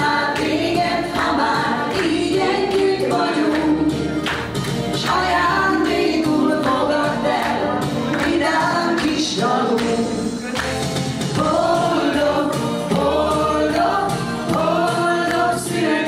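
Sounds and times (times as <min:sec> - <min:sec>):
electric keyboard: 0:00.0 - 0:16.0
group singing through microphones: 0:00.0 - 0:16.0.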